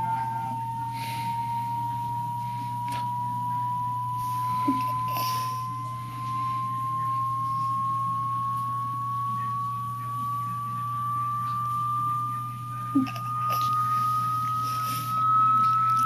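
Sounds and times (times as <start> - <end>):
low steady hum: 0.0 - 16.0
pure tone rising in pitch: 0.0 - 16.0.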